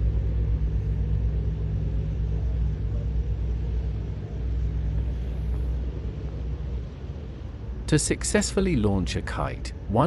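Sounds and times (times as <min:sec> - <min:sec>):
kites humming overhead: 0:00.0 - 0:10.0.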